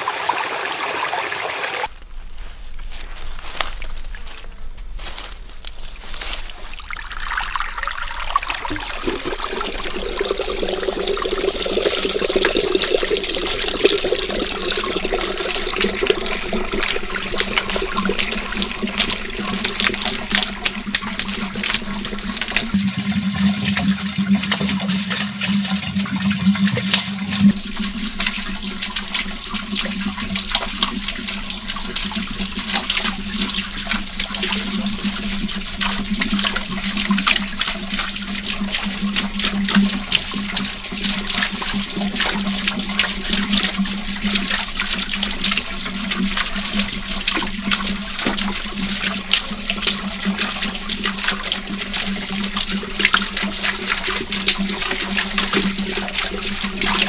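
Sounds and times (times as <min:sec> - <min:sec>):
water splashing into a pool: 0:00.0 - 0:01.9, 0:05.2 - 0:57.0.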